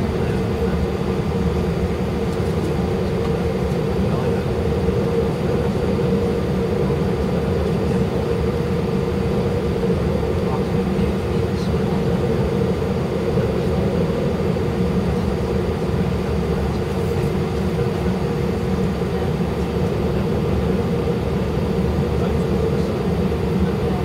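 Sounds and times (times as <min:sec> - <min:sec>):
jet engines idling in cabin: 0:00.0 - 0:24.0.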